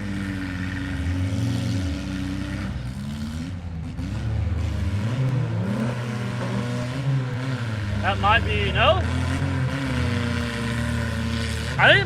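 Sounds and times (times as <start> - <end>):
vehicle engines revving: 0.0 - 12.0.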